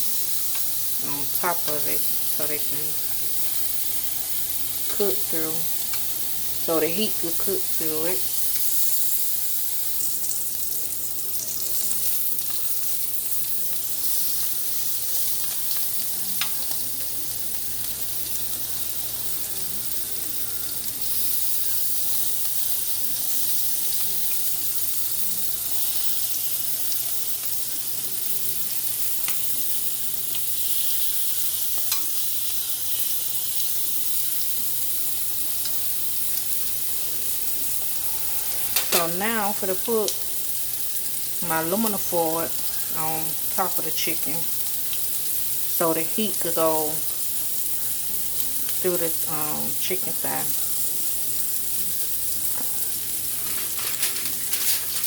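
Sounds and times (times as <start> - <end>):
chicken sizzling on a grill: 0.0 - 55.0.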